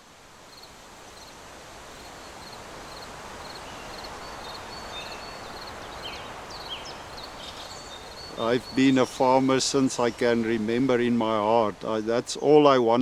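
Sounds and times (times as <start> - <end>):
steady outdoor noise: 0.0 - 13.0
small birds chirping: 2.0 - 12.8.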